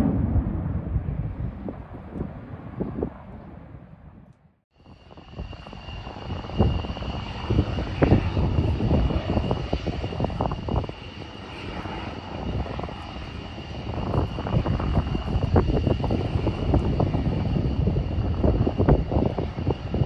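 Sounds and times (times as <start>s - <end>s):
distant jet engine whine and rumble: 0.0s - 20.0s.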